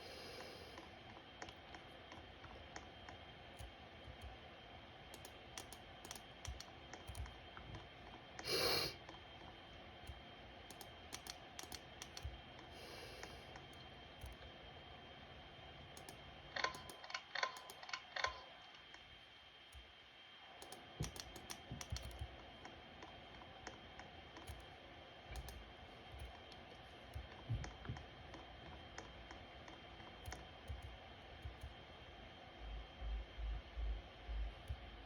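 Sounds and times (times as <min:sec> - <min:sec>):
ceiling fan whine: 0:00.0 - 0:35.0.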